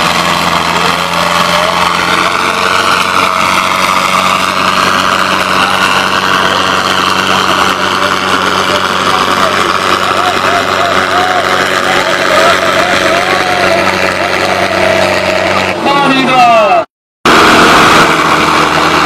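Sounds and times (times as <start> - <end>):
tractor diesel engines under load: 0.0 - 19.0.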